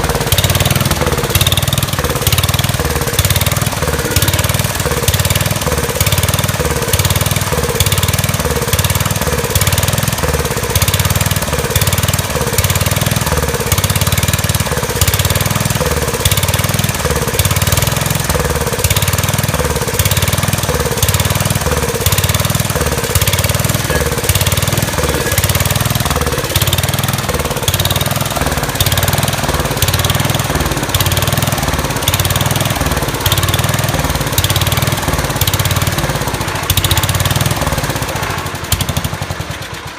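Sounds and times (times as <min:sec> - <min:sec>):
engine surging: 0:00.0 - 0:39.9.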